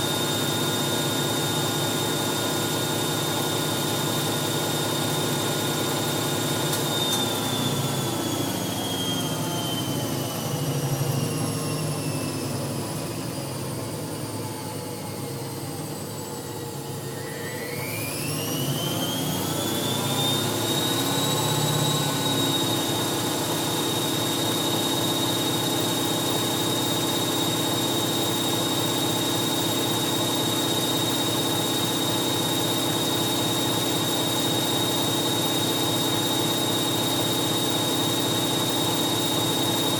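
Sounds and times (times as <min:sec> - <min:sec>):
washing machine motor whine: 0:00.0 - 0:39.9.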